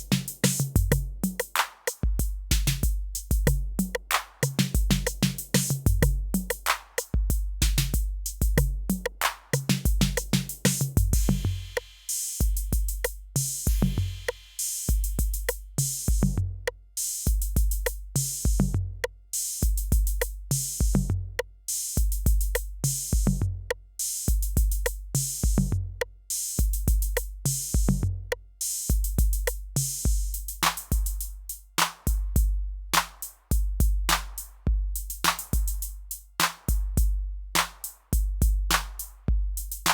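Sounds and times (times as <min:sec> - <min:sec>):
drum machine bass drum: 0:00.0 - 0:39.9
drum machine hi-hat and cymbals: 0:00.0 - 0:39.9.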